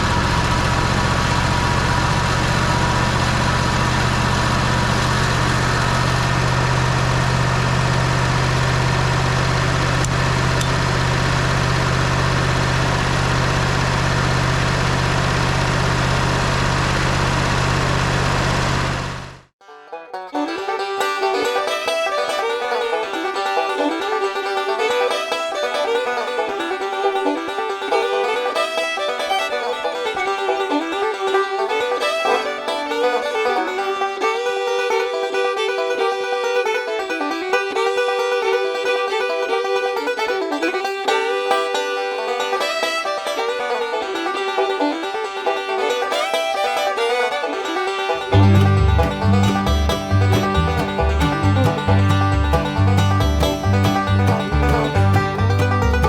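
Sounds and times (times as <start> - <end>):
bluegrass tune with banjo: 0.0 - 17.6, 19.6 - 56.0.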